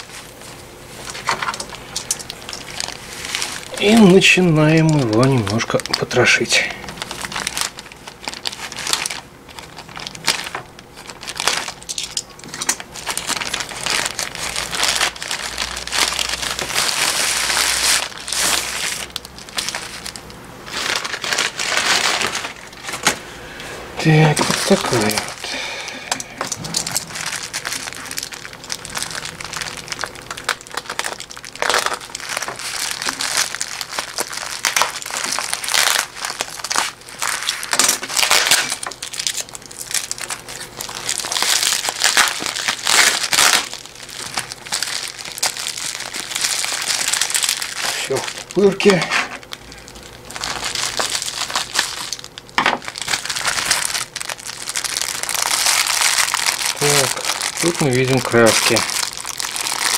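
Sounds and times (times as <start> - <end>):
bubble wrap crinkling: 0.0 - 59.9.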